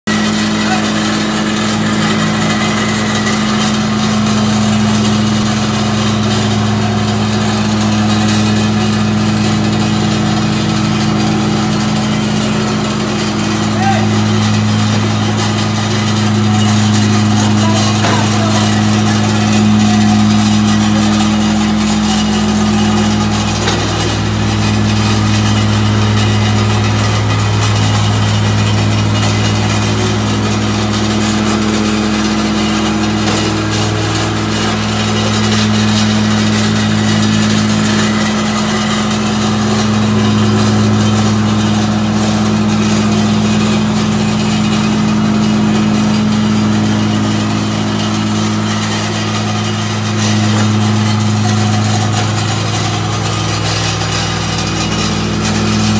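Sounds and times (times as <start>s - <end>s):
plate compactor engine hum: 0.0s - 55.9s.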